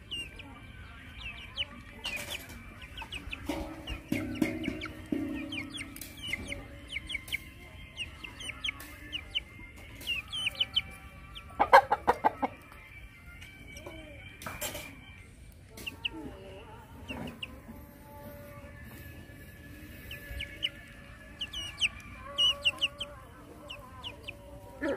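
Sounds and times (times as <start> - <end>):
chicken clucking: 0.0 - 12.9, 13.7 - 24.9.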